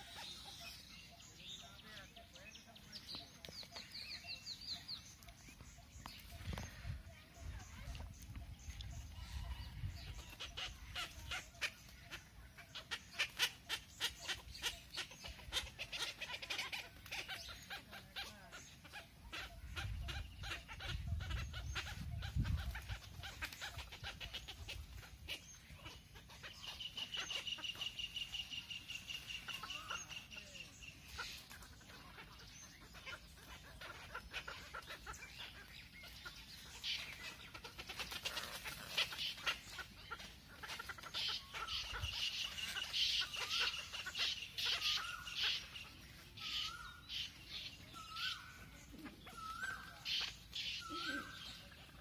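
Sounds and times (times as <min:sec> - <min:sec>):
birds chattering: 0:00.0 - 0:52.0
wavering bird calls: 0:00.0 - 0:52.0.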